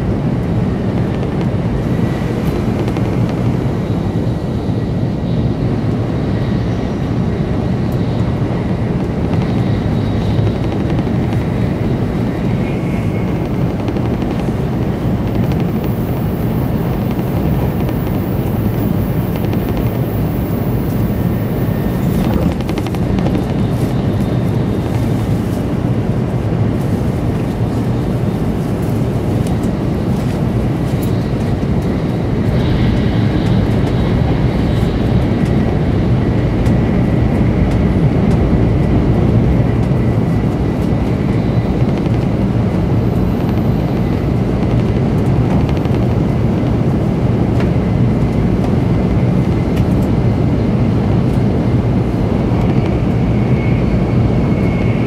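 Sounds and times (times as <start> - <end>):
train rumble inside cabin: 0.0 - 55.0.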